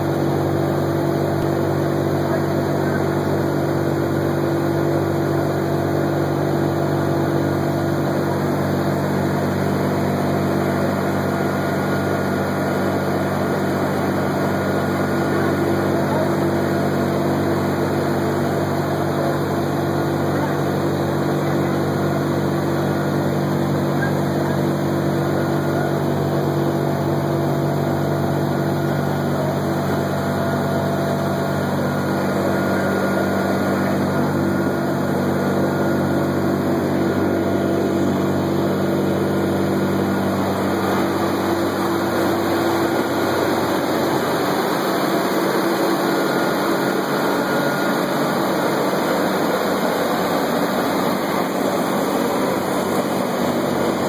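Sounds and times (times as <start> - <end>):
aircraft engines droning: 9.6 - 54.0.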